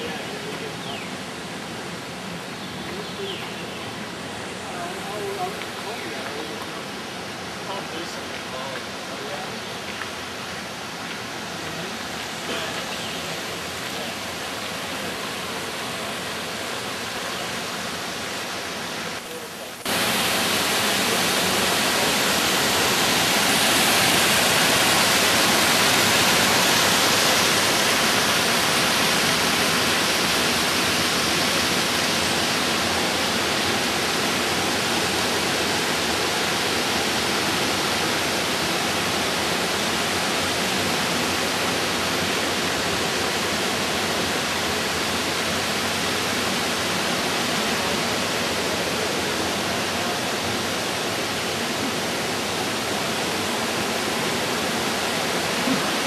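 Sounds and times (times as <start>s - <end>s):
stream cascading over rocks: 0.0s - 56.0s.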